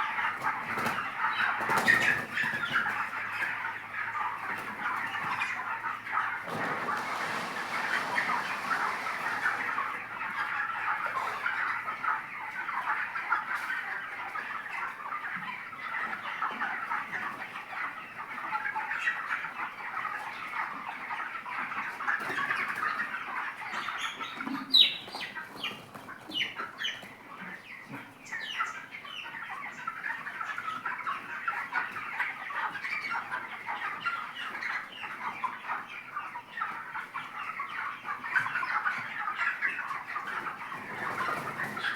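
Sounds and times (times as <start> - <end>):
chickens clucking: 0.0 - 41.9
sharp chicken calls: 0.0 - 41.9.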